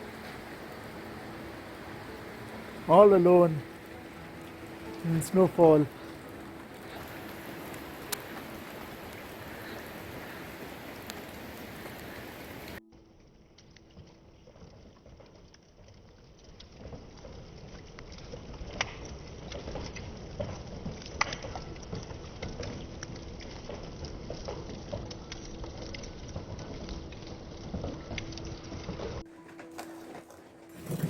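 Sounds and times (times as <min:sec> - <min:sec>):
water drips on surfaces: 0:00.0 - 0:12.8, 0:13.8 - 0:31.0
wet snow pattering: 0:00.0 - 0:12.8, 0:14.8 - 0:31.0.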